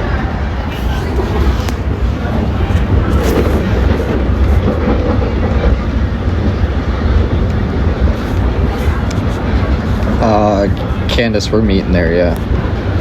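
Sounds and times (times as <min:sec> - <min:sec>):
train coach rumbling on track: 0:00.6 - 0:11.7.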